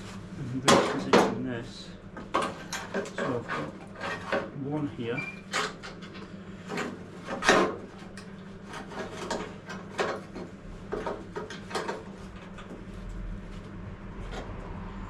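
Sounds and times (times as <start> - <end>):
metal clanks and scrapes: 0.0 - 13.0
steady low hum: 0.0 - 15.0.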